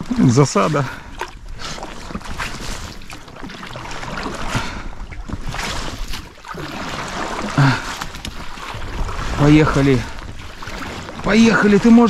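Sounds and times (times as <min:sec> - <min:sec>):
oars knocking against boat: 0:00.0 - 0:12.0
oars splashing through water: 0:00.0 - 0:12.0.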